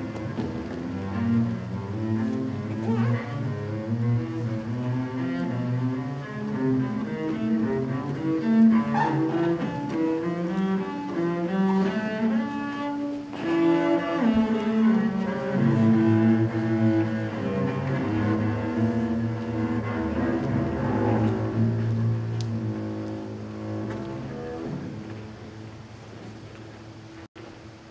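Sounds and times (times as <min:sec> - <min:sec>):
bowed double bass: 0:00.0 - 0:27.2.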